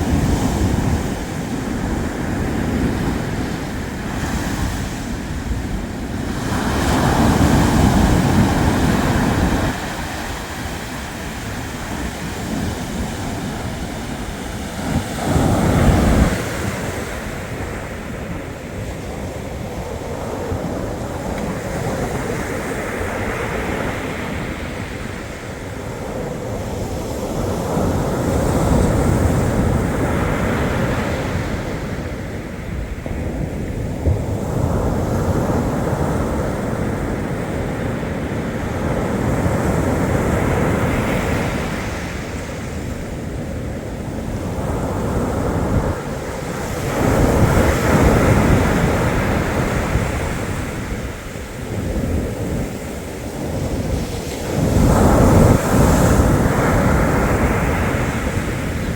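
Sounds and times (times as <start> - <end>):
waves breaking on shore: 0.0 - 58.9.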